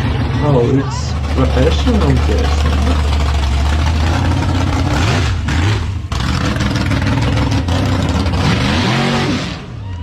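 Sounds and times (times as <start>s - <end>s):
drag car engine revving: 0.0s - 9.8s.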